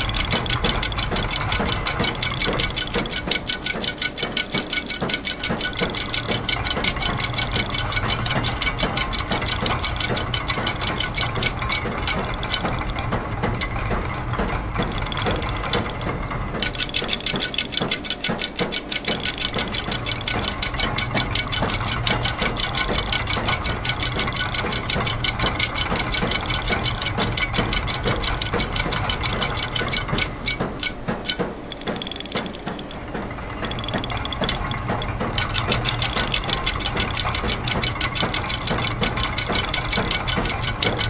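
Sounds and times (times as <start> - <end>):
clockwork clicking: 0.0 - 41.0
low mechanical hum: 0.0 - 41.0.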